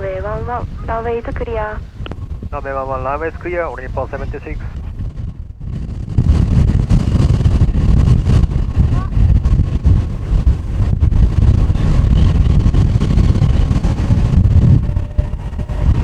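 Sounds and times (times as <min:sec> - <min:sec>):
faint jet engine whine: 0:00.0 - 0:16.0
wind buffeting microphone: 0:00.0 - 0:16.0.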